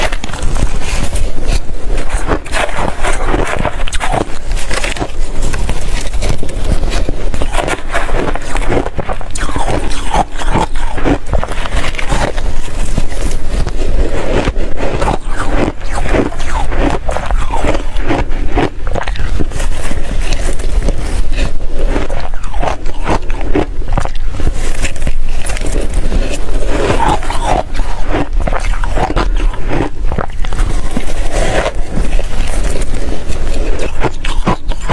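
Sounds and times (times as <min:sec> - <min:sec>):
ice crunching between teeth: 0:00.0 - 0:34.9.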